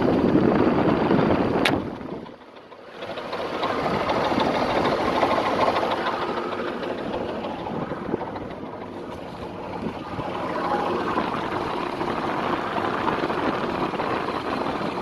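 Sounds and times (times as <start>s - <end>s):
engine knocking: 0.0s - 15.0s.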